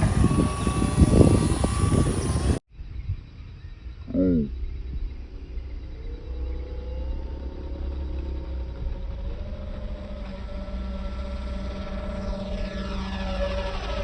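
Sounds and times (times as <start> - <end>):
electric motor and propeller whine: 0.0 - 2.6, 4.6 - 14.0
low wind rumble: 0.0 - 14.0.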